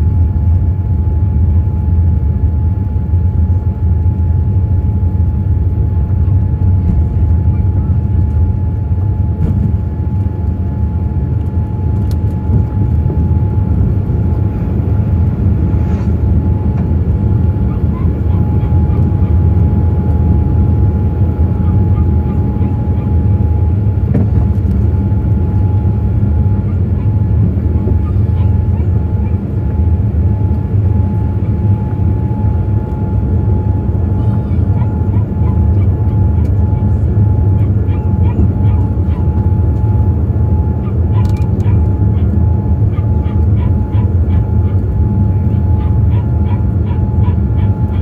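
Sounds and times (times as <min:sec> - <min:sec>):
deep engine and airflow rumble: 0:00.0 - 0:48.0.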